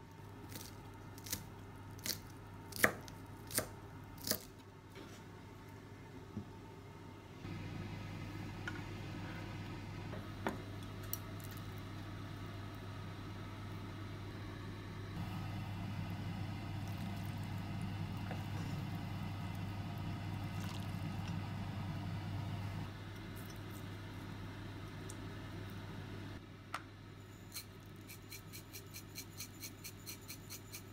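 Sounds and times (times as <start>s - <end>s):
induction hob humming: 3.6s - 30.9s.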